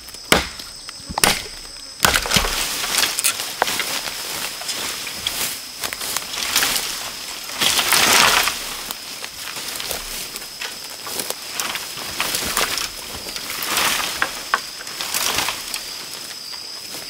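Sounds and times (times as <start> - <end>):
high-pitched insect whine: 0.0 - 17.0
dry leaves rustling underfoot: 1.6 - 17.0.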